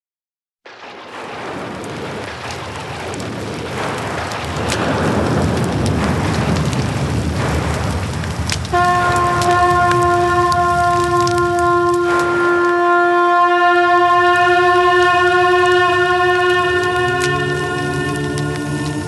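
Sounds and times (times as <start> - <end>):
wind buffeting microphone: 1.2 - 19.0.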